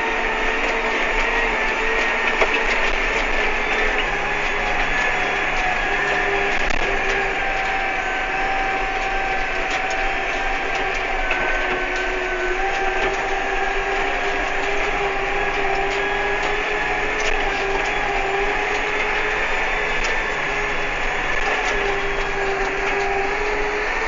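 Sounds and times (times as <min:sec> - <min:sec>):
constant whine: 0:00.0 - 0:24.0
light rattles and clicks: 0:00.0 - 0:24.0
tractor engine drone: 0:00.0 - 0:24.0.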